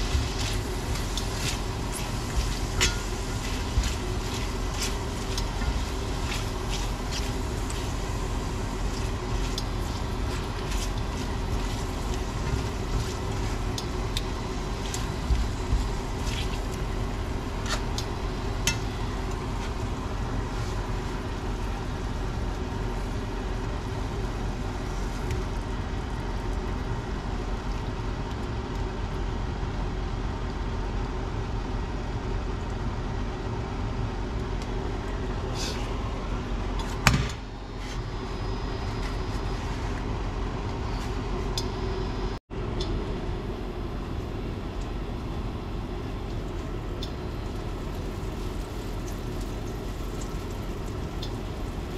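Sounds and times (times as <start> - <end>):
steady hum and hiss: 0.0 - 51.9.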